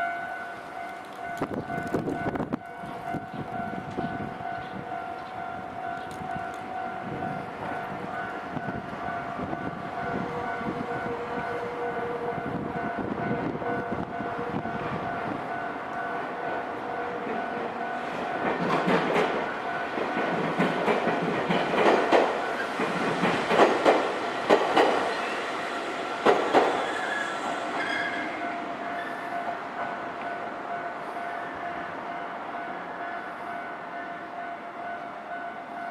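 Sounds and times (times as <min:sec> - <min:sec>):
level-crossing warning bell ringing: 0:00.0 - 0:20.9, 0:27.0 - 0:35.9
approaching train: 0:00.0 - 0:35.9.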